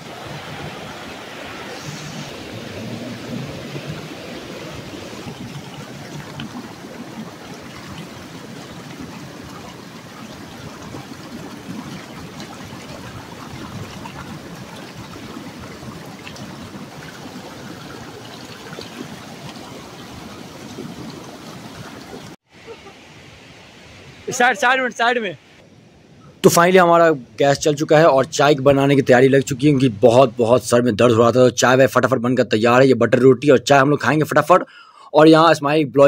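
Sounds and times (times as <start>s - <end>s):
stream flowing: 0.0s - 32.8s.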